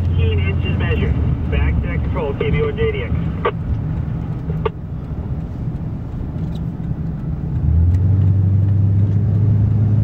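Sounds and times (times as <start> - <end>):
pickup engine and road rumble: 0.0 - 10.0.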